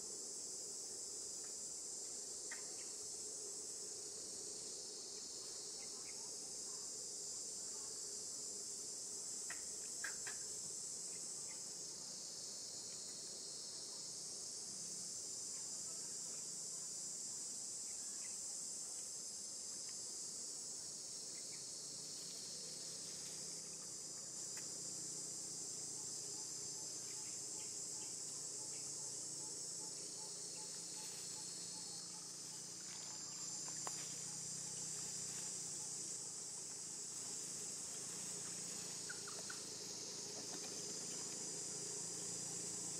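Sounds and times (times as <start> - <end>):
insect chorus drone: 0.0 - 42.9.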